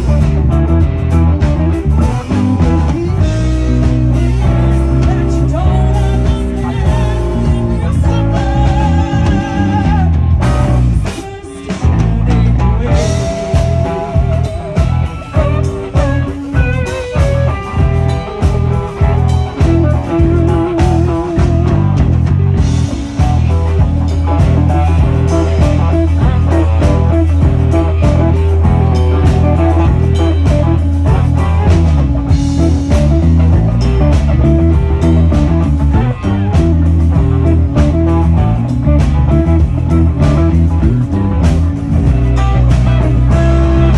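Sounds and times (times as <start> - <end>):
bass and drum beat: 0.0 - 43.9
electric guitar lead: 0.0 - 43.9.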